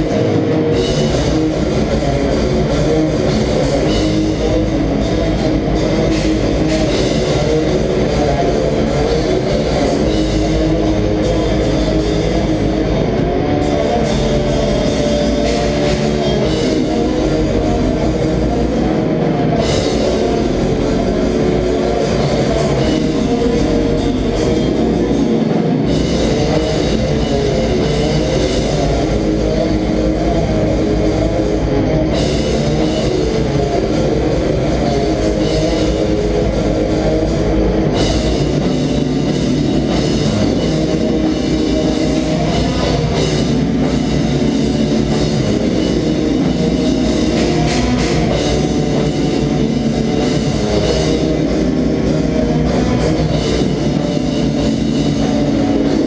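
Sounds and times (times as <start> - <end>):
bass guitar: 0.0 - 56.0
distorted electric guitars: 0.0 - 56.0
drum kit: 0.0 - 56.0.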